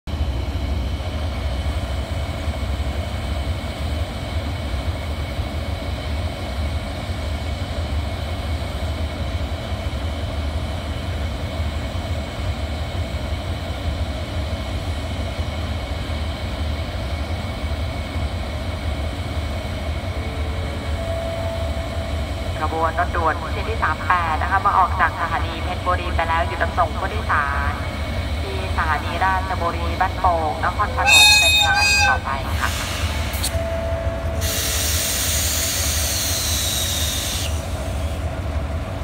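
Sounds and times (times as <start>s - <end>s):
diesel locomotive engine rumble: 0.1s - 39.0s.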